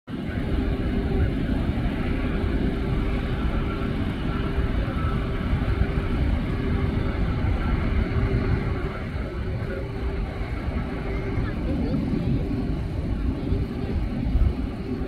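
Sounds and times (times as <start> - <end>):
faint steady hum: 0.1 - 15.0
jet engines rumbling: 0.1 - 15.0.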